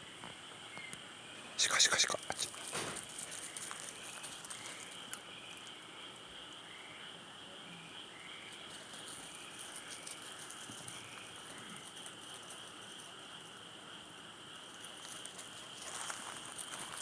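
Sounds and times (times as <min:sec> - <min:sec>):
insect chirps: 0:00.0 - 0:17.0
insect chorus drone: 0:00.0 - 0:17.0.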